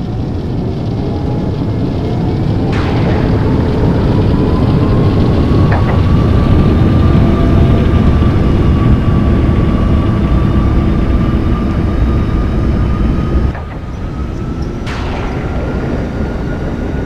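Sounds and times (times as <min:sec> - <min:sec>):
aircraft engine whine and rumble: 0:00.0 - 0:17.0
quieter rumble: 0:00.0 - 0:17.0.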